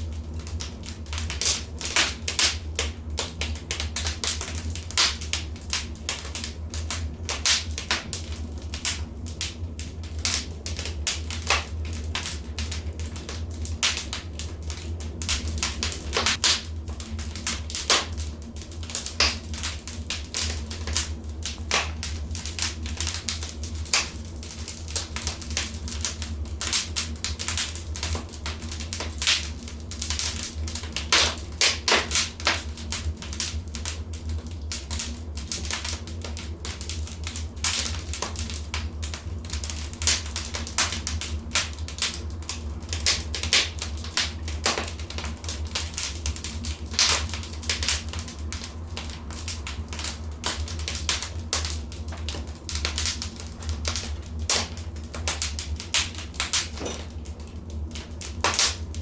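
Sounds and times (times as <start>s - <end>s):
low steady rumble: 0.0s - 59.0s
wood fire crackling and popping: 0.0s - 59.0s.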